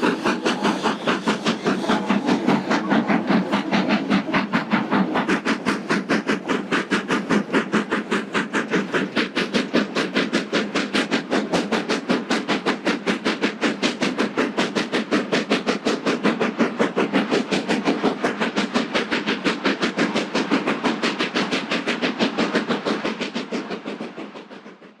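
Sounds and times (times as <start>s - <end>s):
steam locomotive exhaust beats: 0.0s - 25.0s.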